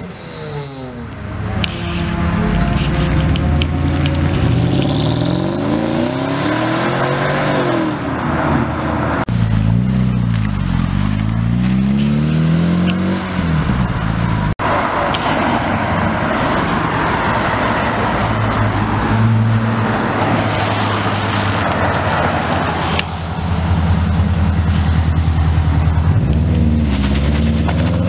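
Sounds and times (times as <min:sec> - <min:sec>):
car driving off: 0:00.0 - 0:28.0
car engine revving: 0:00.0 - 0:28.0.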